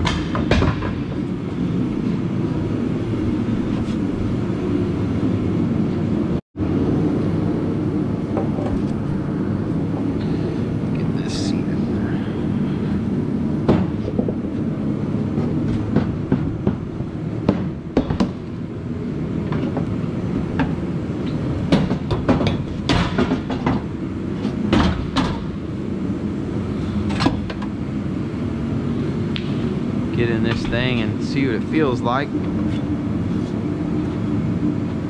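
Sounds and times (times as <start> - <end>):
low hum: 0.0 - 35.0.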